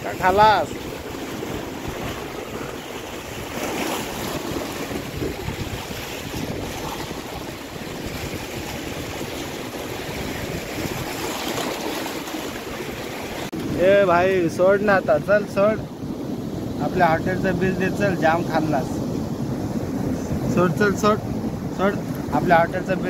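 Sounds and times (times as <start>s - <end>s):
sea waves washing over rocks: 0.0s - 23.0s
wind buffeting microphone: 0.0s - 23.0s.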